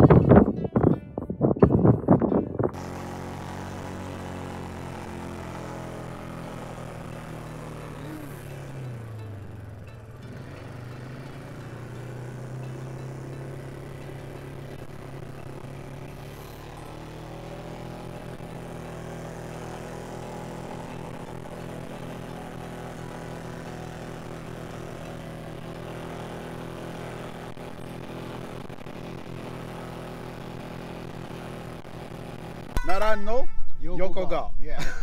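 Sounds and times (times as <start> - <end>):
dune buggy engine running: 0.0 - 33.2.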